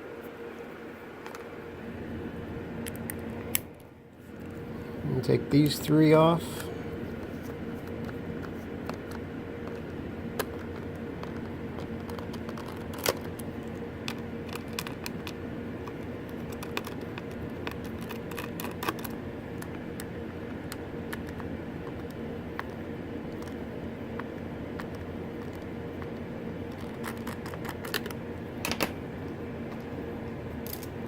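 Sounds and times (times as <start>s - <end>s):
background hum: 0.0s - 31.0s.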